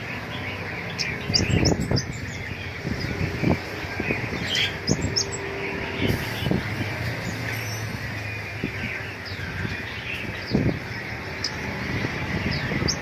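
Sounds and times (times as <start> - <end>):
background birds: 0.0 - 13.0
caged birds chirping: 0.0 - 13.0.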